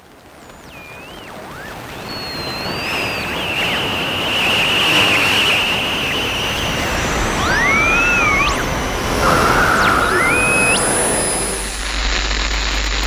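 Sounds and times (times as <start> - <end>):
radio static hiss: 0.0 - 13.0
sliding whistling tones: 0.5 - 11.9
steady whistle: 0.6 - 11.9.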